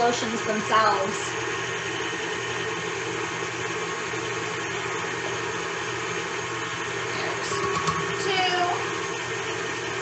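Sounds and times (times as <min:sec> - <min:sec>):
electric mixer running: 0:00.0 - 0:10.0.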